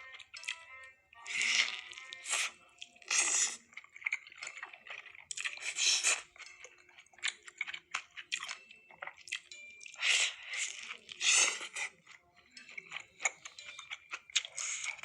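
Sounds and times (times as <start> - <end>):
crunching of crisp food: 0.0 - 15.0.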